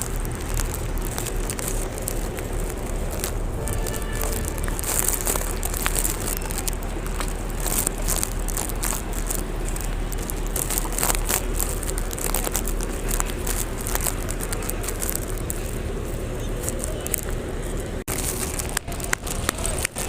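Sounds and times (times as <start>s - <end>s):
flock of pigeons rustling: 0.0s - 20.0s.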